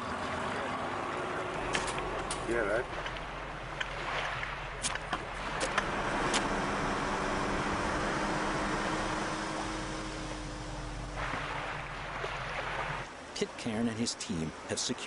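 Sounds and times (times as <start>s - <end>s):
water rushing past boat: 0.0s - 15.0s
outboard motor running: 0.2s - 13.1s.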